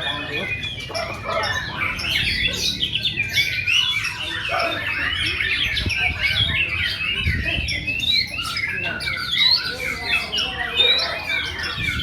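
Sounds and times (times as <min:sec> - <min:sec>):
birds singing whistles and chirps: 0:00.0 - 0:12.0.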